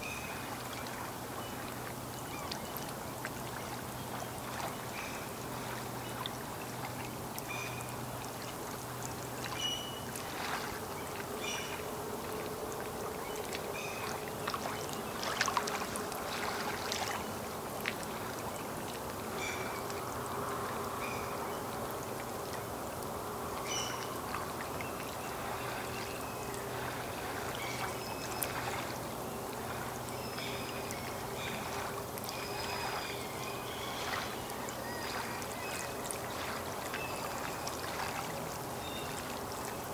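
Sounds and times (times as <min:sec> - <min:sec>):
sharper water splashes: 0:00.0 - 0:21.2, 0:21.8 - 0:39.9
small waves lapping: 0:00.0 - 0:39.9.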